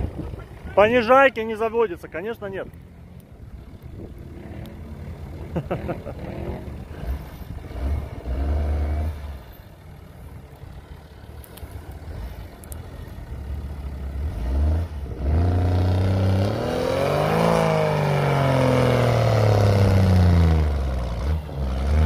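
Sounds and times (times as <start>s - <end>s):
off-road engine revving: 0.0s - 10.1s, 10.8s - 22.0s.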